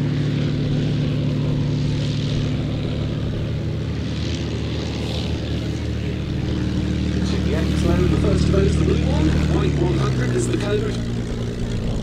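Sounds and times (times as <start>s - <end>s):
piston aircraft engine drone: 0.0s - 12.0s.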